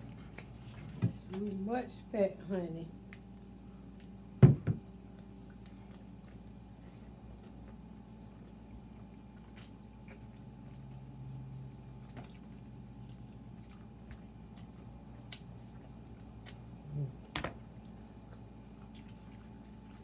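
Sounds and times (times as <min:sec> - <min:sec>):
chewing and biting food: 0:03.0 - 0:20.0.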